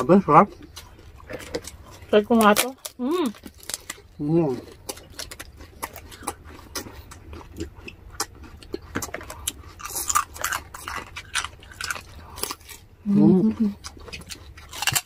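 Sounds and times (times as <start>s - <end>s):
crunching and chewing crispy food: 0.0s - 15.0s.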